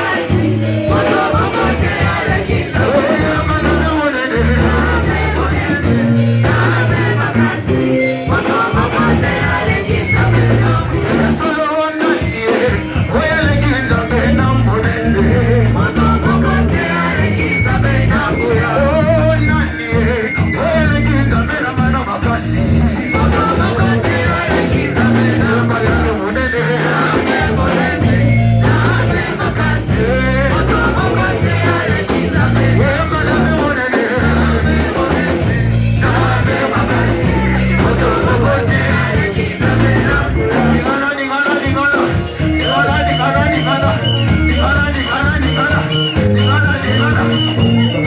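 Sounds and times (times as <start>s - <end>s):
band playing worship music: 0.0s - 48.0s
bass line: 0.0s - 48.0s
voices singing: 0.0s - 48.0s.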